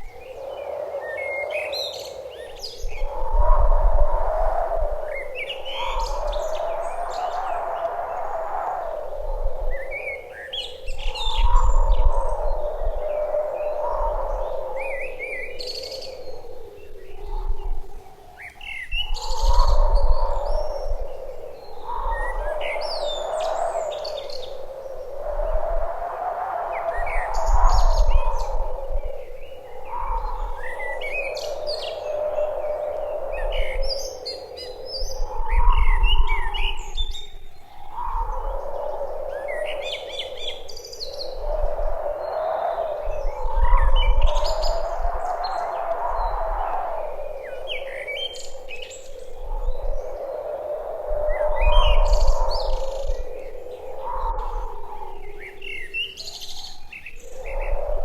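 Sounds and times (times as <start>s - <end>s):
small birds chirping: 0.0s - 25.8s, 26.4s - 57.9s.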